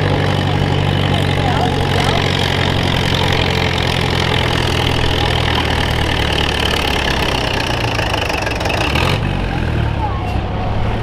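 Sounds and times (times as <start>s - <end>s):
tractor engine under load: 0.0s - 11.0s.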